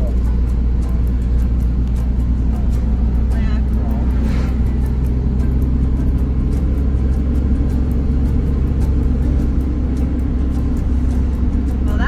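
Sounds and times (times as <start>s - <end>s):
van engine and tyre rumble: 0.0s - 12.0s.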